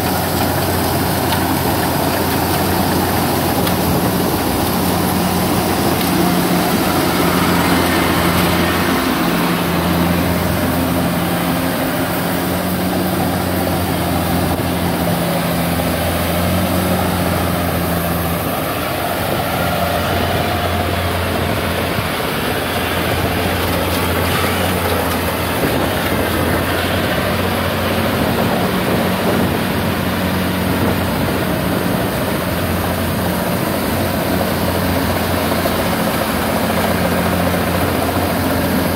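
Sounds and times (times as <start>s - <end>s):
cutting and threshing machinery: 0.0s - 38.9s
diesel engine drone: 0.0s - 38.9s.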